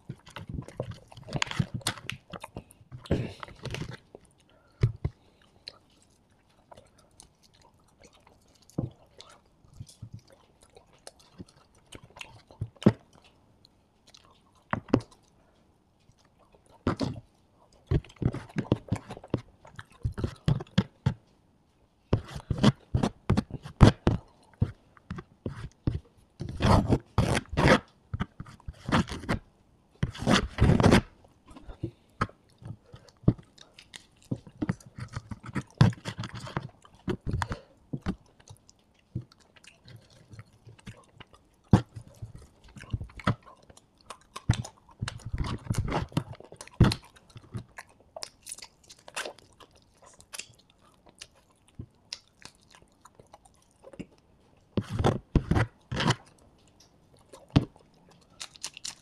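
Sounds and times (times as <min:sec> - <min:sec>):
chewing and crunching fried meat: 0:00.0 - 0:59.0.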